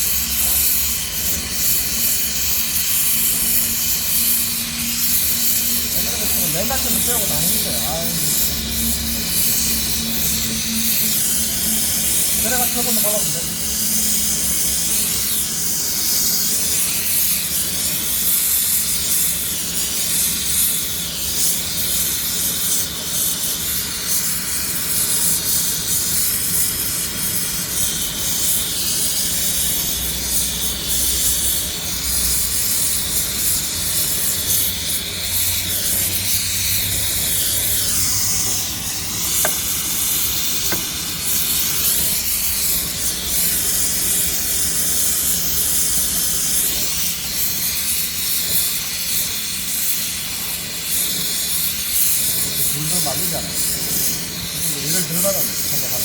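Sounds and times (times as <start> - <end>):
welding arc hissing and crackling: 0.0 - 56.0
welding set hum: 0.0 - 56.0.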